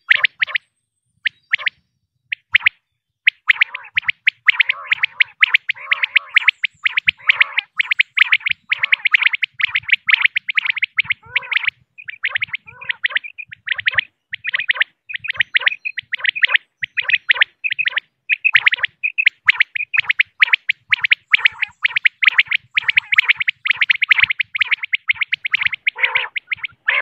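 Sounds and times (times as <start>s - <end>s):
quail calling: 0.0s - 0.6s, 1.3s - 27.0s.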